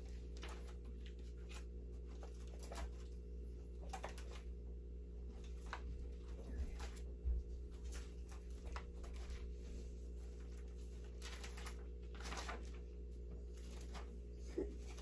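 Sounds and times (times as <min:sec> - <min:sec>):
paper pages turning: 0:00.0 - 0:04.6, 0:05.2 - 0:15.0
steady low hum: 0:00.0 - 0:15.0.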